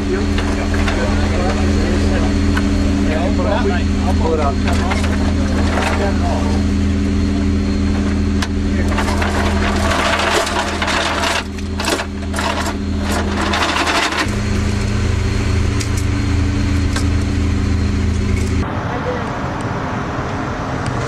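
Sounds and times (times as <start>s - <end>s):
steady engine drone: 0.0s - 21.0s.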